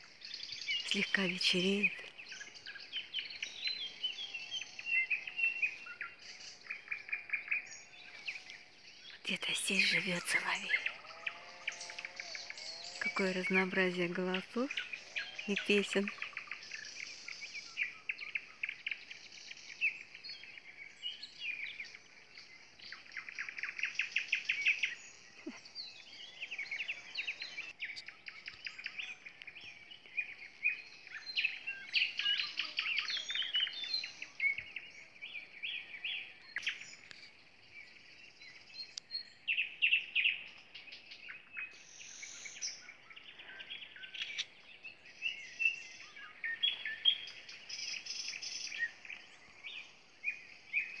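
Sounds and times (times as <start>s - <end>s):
nightingale singing: 0.0s - 51.0s
other songbirds singing: 0.0s - 51.0s.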